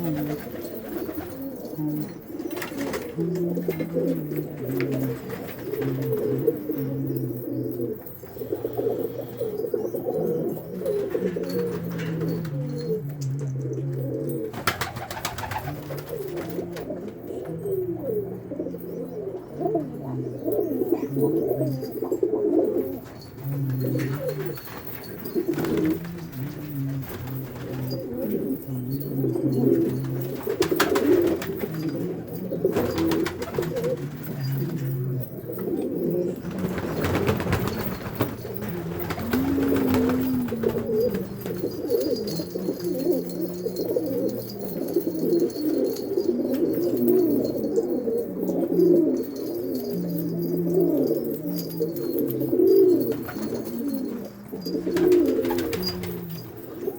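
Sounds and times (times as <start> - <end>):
pigeons cooing: 0.0 - 56.9.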